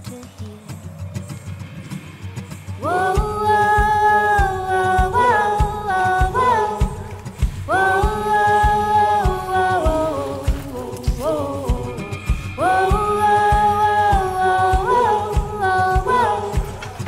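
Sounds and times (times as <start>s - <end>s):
wordless singing: 0.0s - 17.0s
steady low beat: 2.2s - 17.0s.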